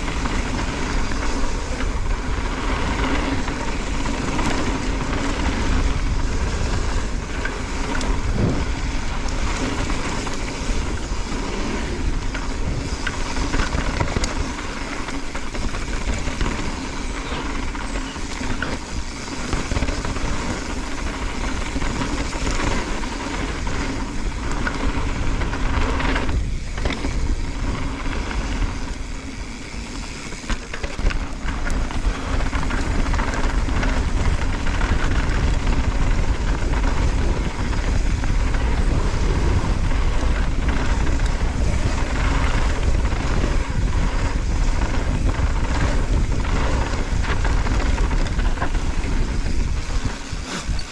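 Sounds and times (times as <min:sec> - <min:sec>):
bike rattling: 0:00.0 - 0:50.9
tyres rolling over loose stones: 0:00.0 - 0:50.9
wind rumble on microphone: 0:00.0 - 0:50.9.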